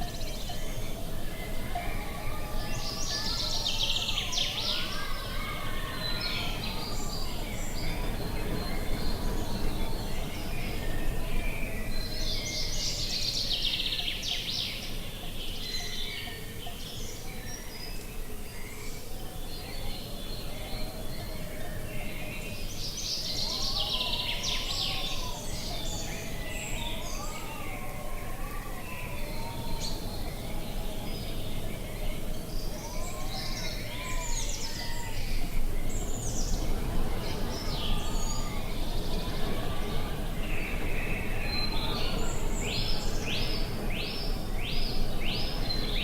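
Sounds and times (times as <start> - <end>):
low wind rumble: 0.0 - 16.2, 17.0 - 46.0
birds chirping and singing: 0.0 - 46.0.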